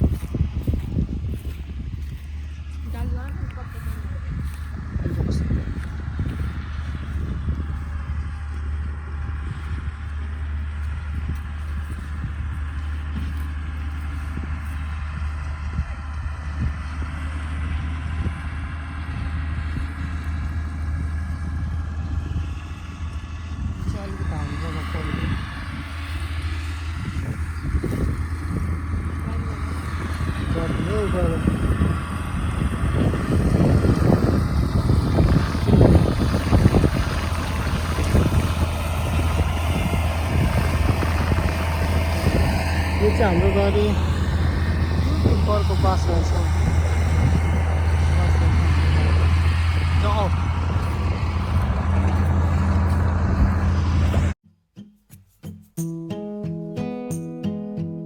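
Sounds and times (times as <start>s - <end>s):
vehicle engine rumble: 0.0s - 54.4s
wind buffeting microphone: 0.0s - 54.4s.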